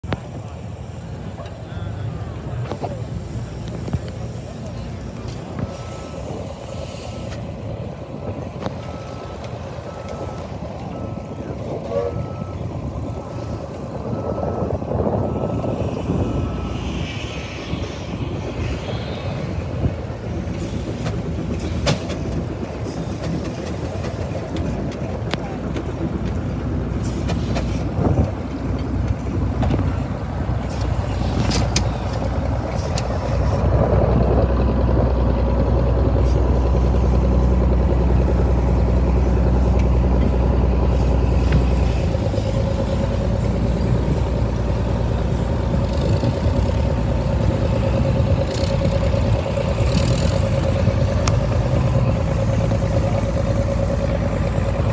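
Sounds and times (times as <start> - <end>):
heavy low rumble: 0.0 - 54.9
steady whine: 0.0 - 54.9
steam traction engine running: 0.0 - 54.9.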